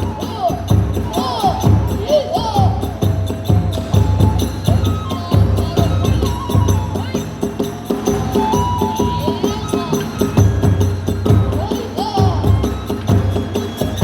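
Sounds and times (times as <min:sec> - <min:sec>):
bamboo flute melody: 0:00.0 - 0:14.0
hand cymbals clashing: 0:00.0 - 0:14.0
taiko drums beating: 0:00.0 - 0:14.0.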